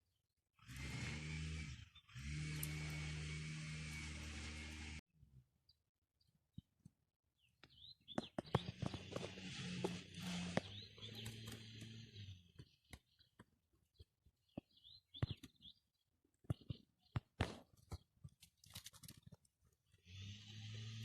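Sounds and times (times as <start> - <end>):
small birds chirping: 1.7 - 4.9, 5.6 - 21.0.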